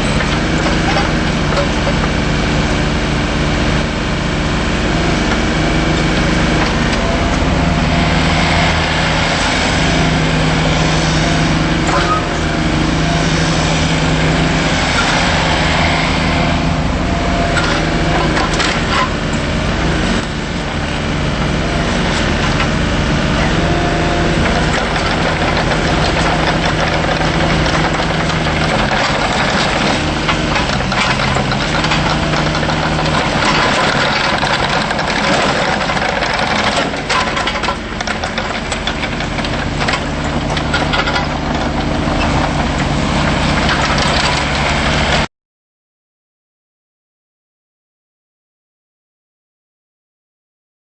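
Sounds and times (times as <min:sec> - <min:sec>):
mini excavator diesel engine running: 0:00.0 - 0:45.3.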